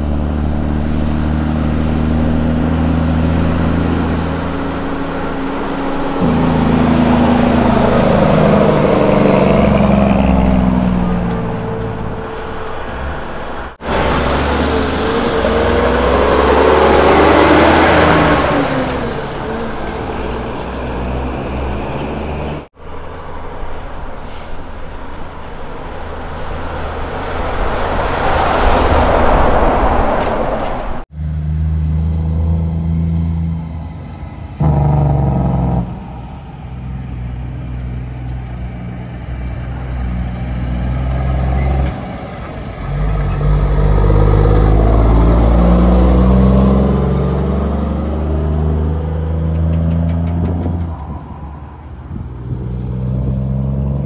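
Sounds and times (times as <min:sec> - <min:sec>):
heavy diesel trucks passing: 0:00.0 - 0:54.0.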